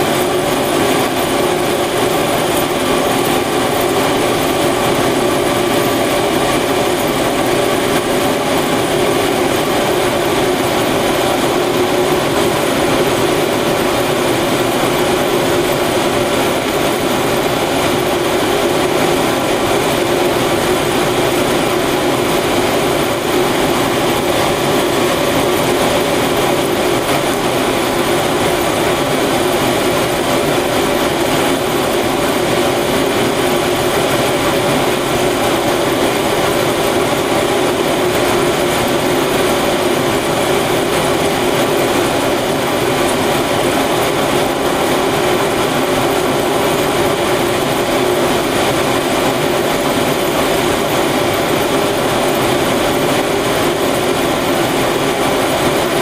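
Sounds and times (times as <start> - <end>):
furnace burners and fans rushing: 0.0 - 56.0.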